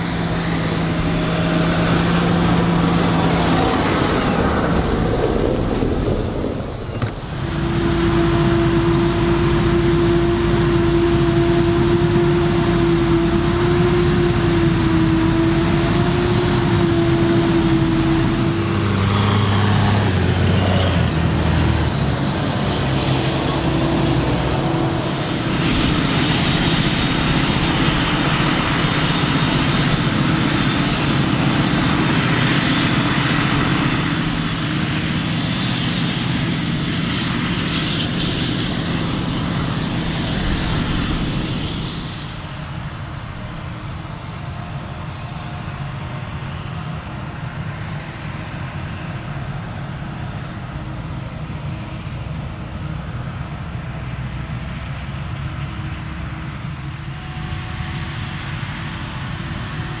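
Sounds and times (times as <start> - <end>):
strong steady whine: 0.0 - 60.0
tractor engine running: 0.0 - 60.0.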